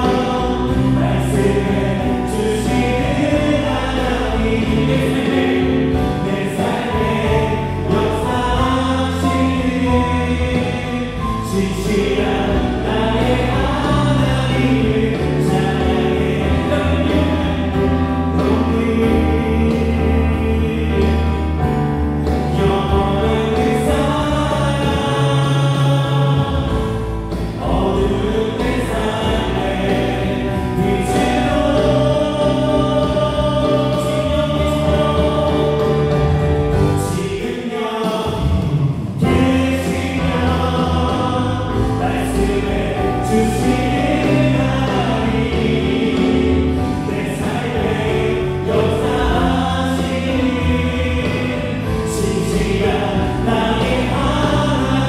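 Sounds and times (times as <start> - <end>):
live band playing: 0.0 - 55.0
people singing: 0.0 - 55.0.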